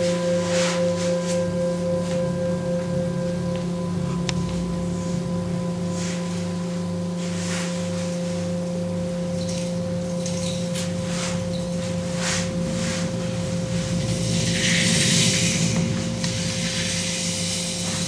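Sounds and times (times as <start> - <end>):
singing bowl ringing: 0.0 - 18.0.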